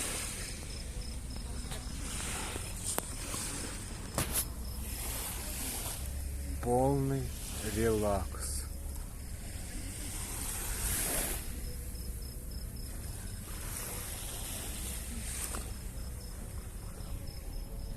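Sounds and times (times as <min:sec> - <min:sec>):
waves washing onto shore: 0:00.0 - 0:16.8
cricket chirping: 0:00.0 - 0:17.9.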